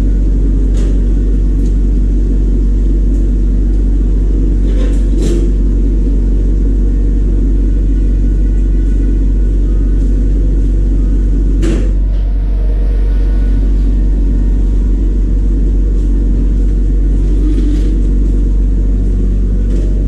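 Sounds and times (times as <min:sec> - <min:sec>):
machine deep even hum: 0:00.0 - 0:20.0.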